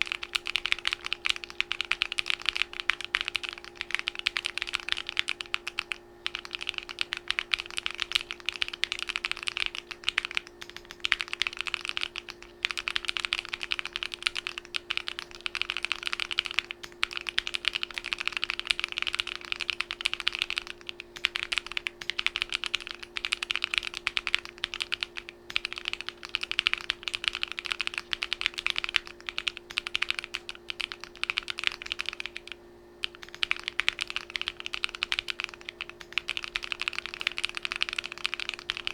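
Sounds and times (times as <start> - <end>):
mechanical keyboard typing: 0.0 - 38.9
steady low hum: 0.0 - 38.9.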